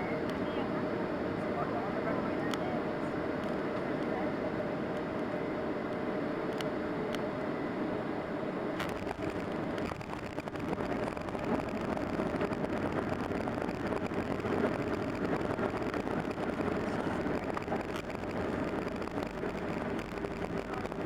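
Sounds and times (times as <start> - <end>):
faint steady hum: 0.0 - 21.0
jet engines running: 0.0 - 21.0.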